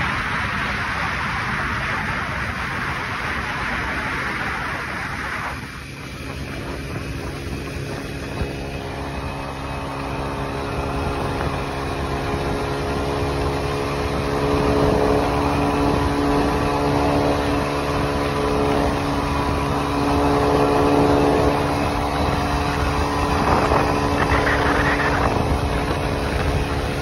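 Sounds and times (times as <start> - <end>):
scooter engine droning hum: 0.0 - 27.0
wind and road noise: 0.0 - 27.0.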